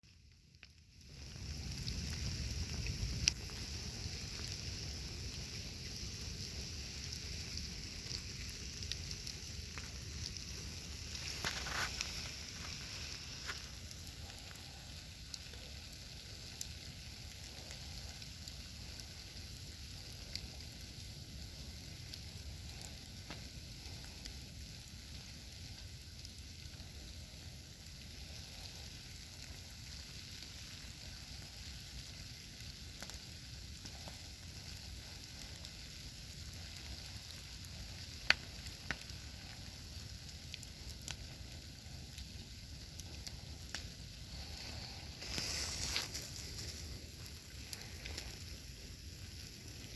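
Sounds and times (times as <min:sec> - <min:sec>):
campfire hissing and crackling: 0:00.0 - 0:49.9.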